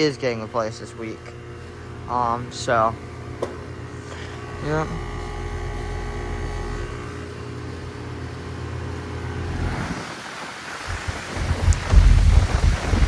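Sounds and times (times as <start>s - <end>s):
heat pump compressor and fan hum: 0.0s - 13.0s.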